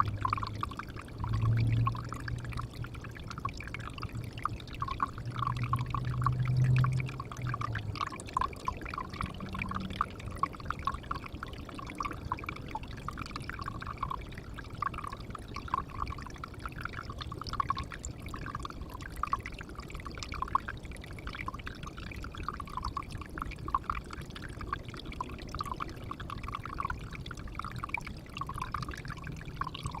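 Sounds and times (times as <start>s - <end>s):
water trickling into pond: 0.0s - 30.0s.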